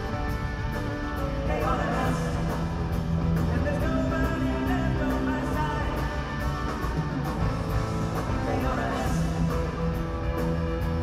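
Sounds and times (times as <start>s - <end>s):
live rock band: 0.0s - 11.0s.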